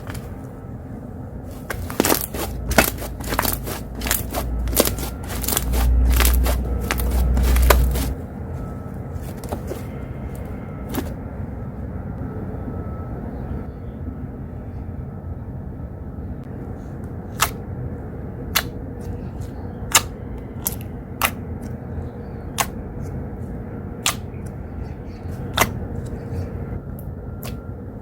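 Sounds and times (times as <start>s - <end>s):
low rumble of outside noise: 0.0s - 28.0s.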